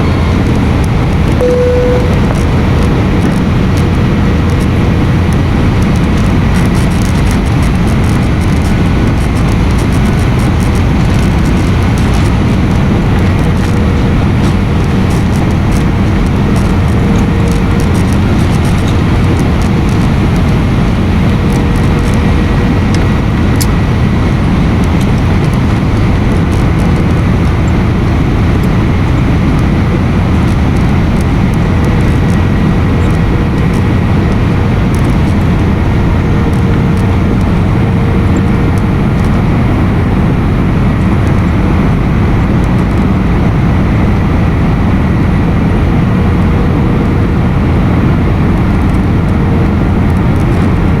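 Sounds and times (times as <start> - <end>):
airliner cabin engine noise: 0.0 - 51.0
faint steady hum: 0.0 - 51.0.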